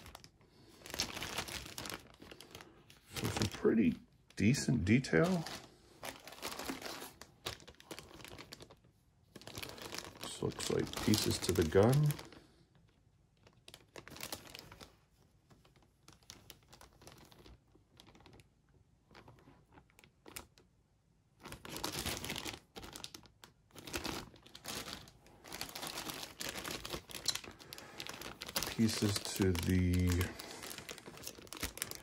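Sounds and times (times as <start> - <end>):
plastic bags crinkling: 0.0 - 15.0, 15.6 - 18.5, 21.4 - 32.0.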